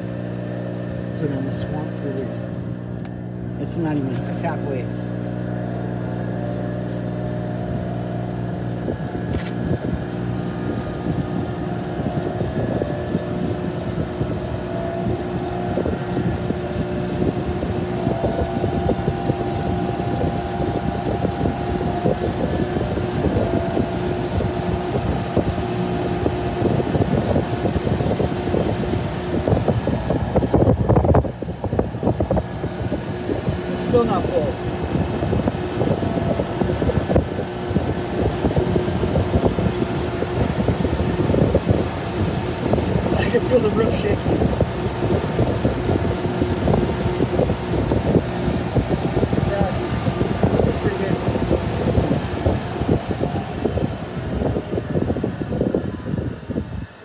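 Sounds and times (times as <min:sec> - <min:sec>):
ticking and rattling: 0:00.0 - 0:56.6
blower air rush: 0:00.0 - 0:57.0
motor humming: 0:00.0 - 0:57.0.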